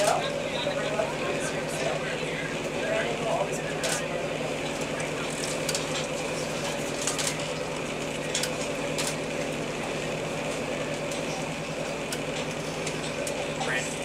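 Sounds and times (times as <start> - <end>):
machinery humming drone: 0.0 - 14.0.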